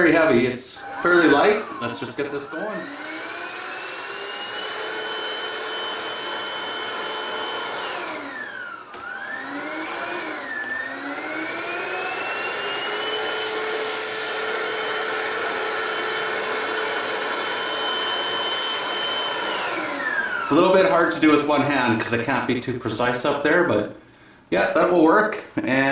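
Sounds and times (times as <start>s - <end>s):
vacuum cleaner motor whine: 0.0s - 21.7s.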